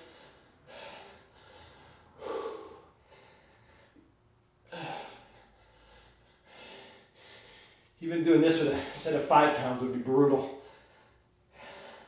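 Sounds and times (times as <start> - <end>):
man breathing heavily: 0.0 - 9.2, 10.4 - 12.0.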